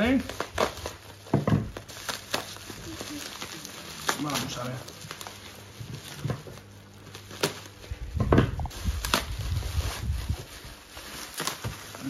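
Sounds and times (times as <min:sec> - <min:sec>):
bubble wrap being cut: 0:00.0 - 0:12.0
bubble wrap crinkling: 0:00.0 - 0:12.0.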